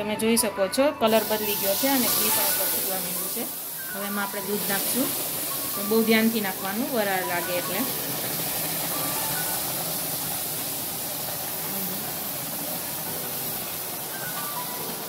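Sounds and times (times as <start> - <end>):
milk hissing and sizzling in a wok: 1.1 - 15.0.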